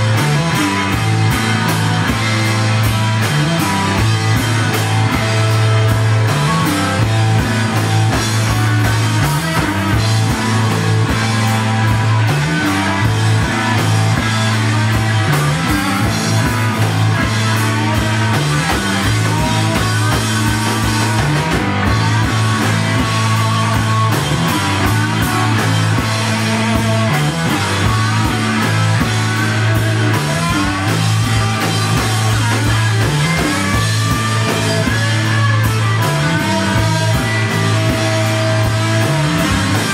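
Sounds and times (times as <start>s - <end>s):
bass riff: 0.0s - 39.9s
distorted electric guitar: 0.0s - 39.9s
steady drum beat: 0.0s - 39.9s.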